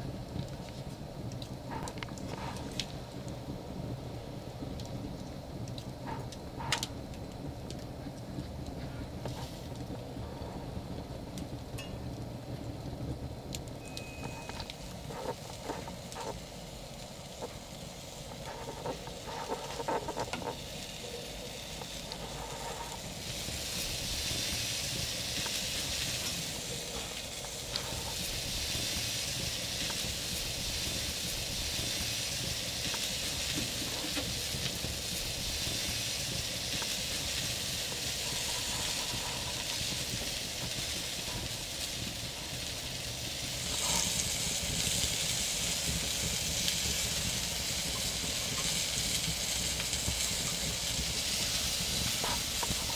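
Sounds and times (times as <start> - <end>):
sausages sizzling on a grill: 0.0 - 52.9.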